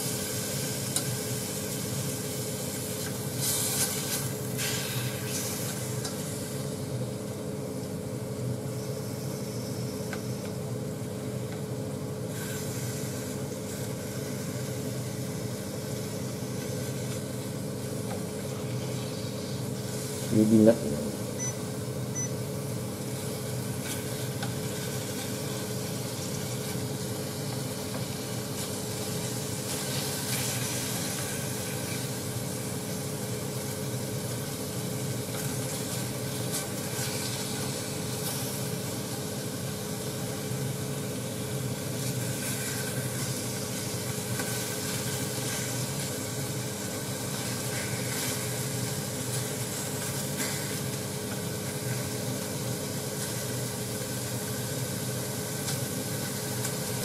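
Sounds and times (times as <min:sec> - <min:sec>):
meat sizzling in a saucepan: 0:00.0 - 0:10.5, 0:11.1 - 0:20.3, 0:21.7 - 0:57.0
steady hum: 0:00.0 - 0:57.0.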